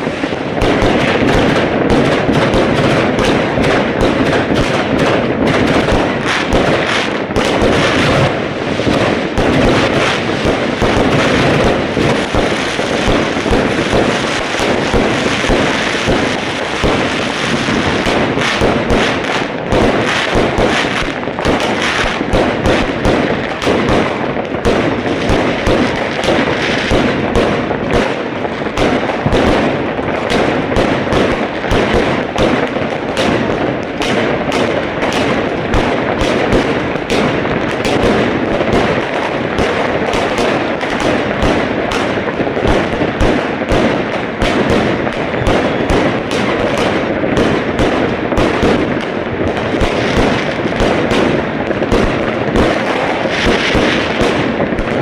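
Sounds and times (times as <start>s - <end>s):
fireworks and firecrackers banging: 0.0s - 55.0s.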